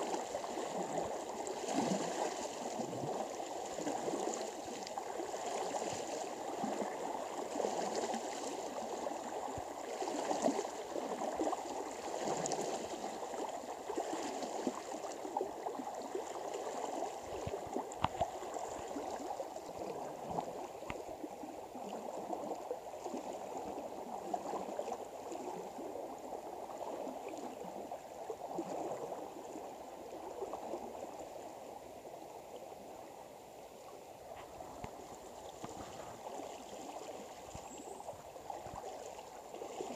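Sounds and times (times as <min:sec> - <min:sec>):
river water sloshing around legs: 0:00.0 - 0:31.6, 0:33.9 - 0:39.9.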